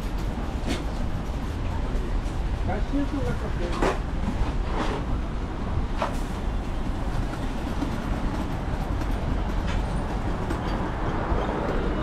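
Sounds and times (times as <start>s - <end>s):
city street ambience: 0.0s - 12.0s.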